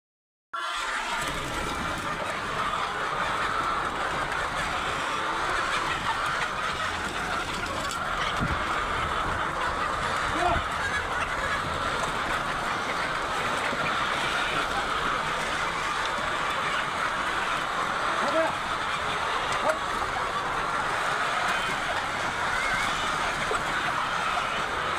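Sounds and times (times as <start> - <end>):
flock of hens clucking: 0.6 - 24.9.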